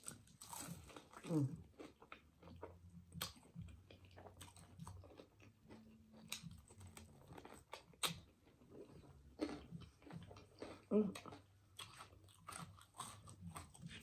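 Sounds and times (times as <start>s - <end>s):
person biting and chewing crispy food: 0.0s - 14.0s.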